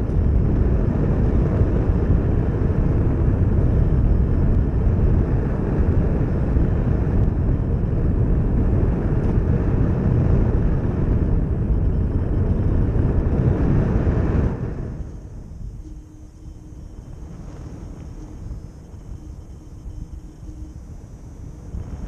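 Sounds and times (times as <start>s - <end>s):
rush of air: 0.0s - 15.9s, 17.0s - 19.4s
motor and propeller whine: 0.0s - 22.0s.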